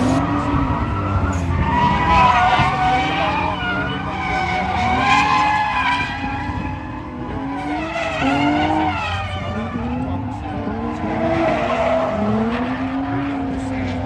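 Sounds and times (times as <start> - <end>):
car engines revving: 0.0 - 14.0
tyres skidding and squealing: 0.0 - 14.0.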